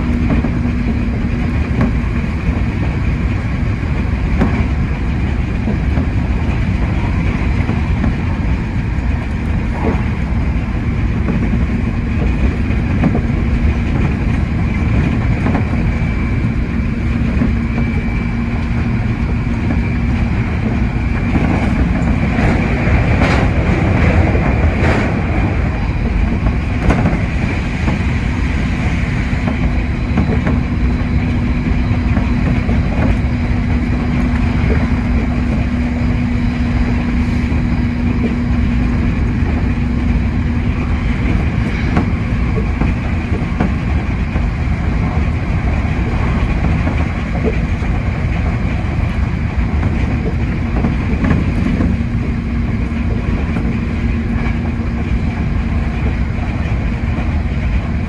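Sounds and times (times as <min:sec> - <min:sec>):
steady hum: 0:00.0 - 0:58.0
train wheels rumbling on rail: 0:00.0 - 0:58.0.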